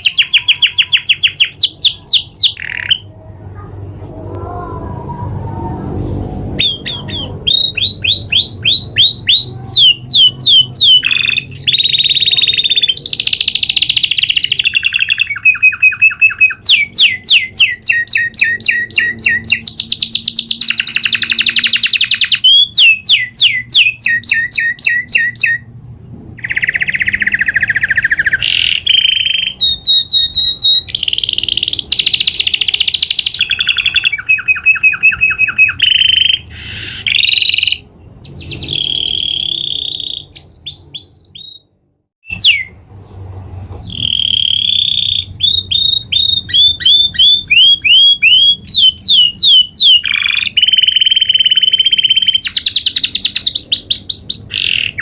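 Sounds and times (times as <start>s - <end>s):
canary singing trills: 0.0s - 25.7s, 26.4s - 42.8s, 43.8s - 55.0s.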